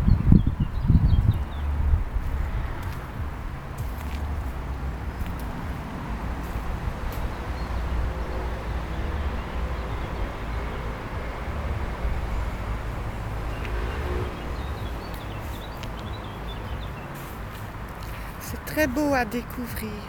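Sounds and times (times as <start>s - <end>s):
steady low rumble: 0.0s - 19.2s
wind buffeting the microphone: 0.0s - 19.9s.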